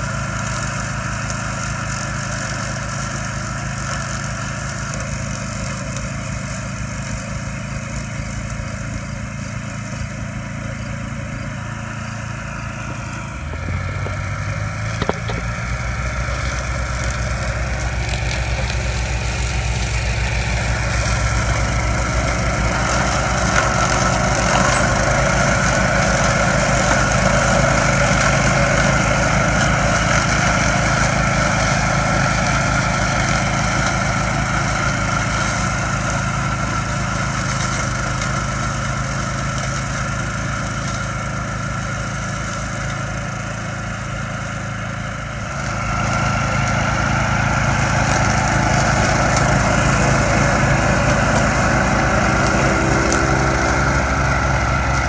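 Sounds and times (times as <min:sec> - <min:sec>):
small gasoline mower engine: 0:00.0 - 0:55.0.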